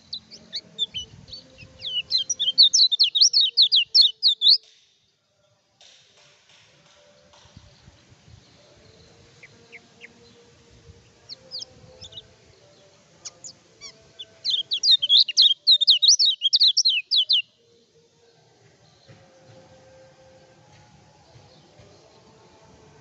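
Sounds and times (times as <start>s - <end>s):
songbird chirping and warbling: 0.0s - 4.8s, 7.1s - 22.7s.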